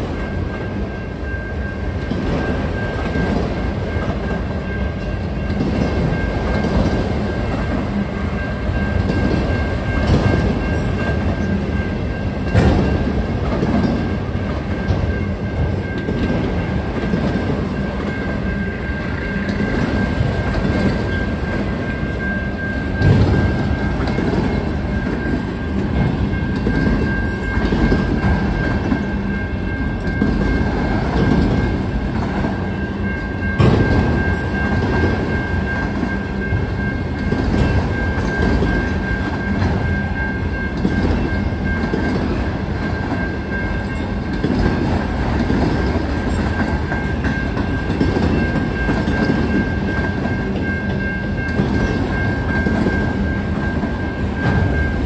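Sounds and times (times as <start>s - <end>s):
crossing warning bell: 0.0s - 55.0s
train wheels rumbling over rails: 0.0s - 55.0s.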